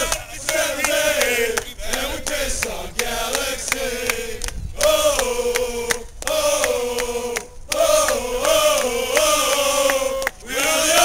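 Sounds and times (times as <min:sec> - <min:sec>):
crowd chanting in unison: 0:00.0 - 0:11.0
hand claps: 0:00.0 - 0:11.0.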